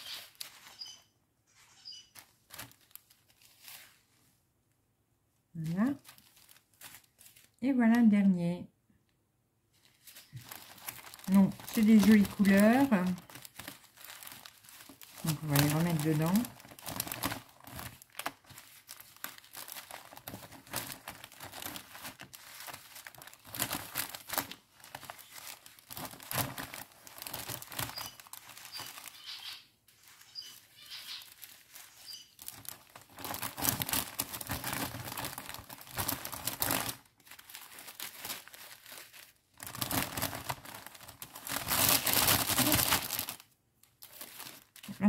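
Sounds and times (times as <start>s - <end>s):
plastic sachets crinkling: 0.0s - 1.1s, 2.1s - 4.1s, 5.6s - 7.6s, 9.8s - 45.0s.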